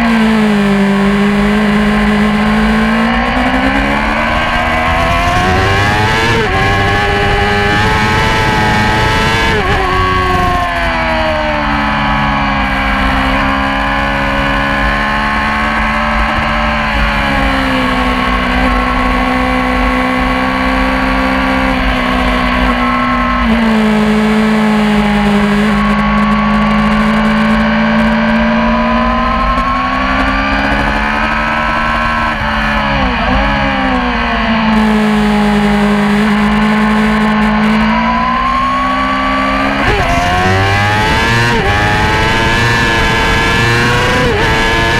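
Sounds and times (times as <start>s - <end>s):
motorcycle engine revving hard: 0.0s - 44.9s.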